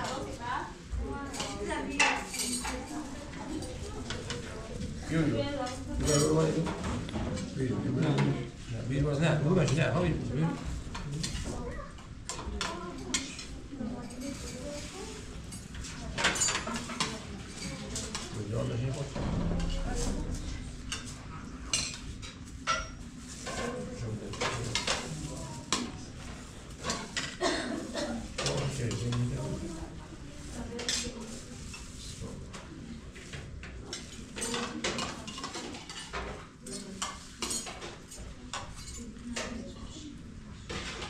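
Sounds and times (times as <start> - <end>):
dishes and cutlery clinking: 1.3 - 4.6, 5.2 - 8.4, 10.9 - 29.7, 30.6 - 41.0.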